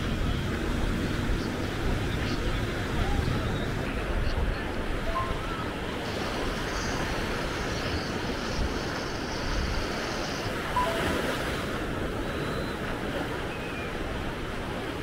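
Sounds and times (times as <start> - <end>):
small waves washing up beach: 0.0 - 15.0.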